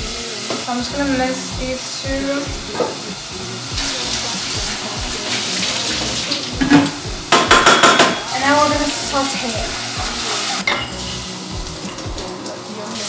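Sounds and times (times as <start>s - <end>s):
kitchen tap running: 0.0s - 13.0s.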